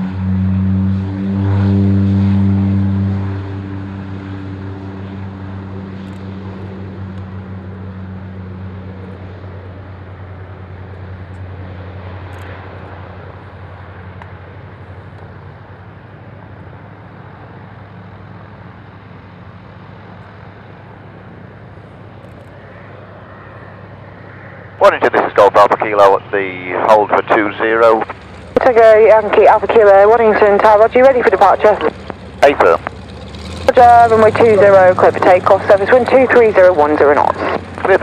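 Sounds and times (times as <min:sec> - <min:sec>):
propeller aircraft taking off: 0:00.0 - 0:38.0.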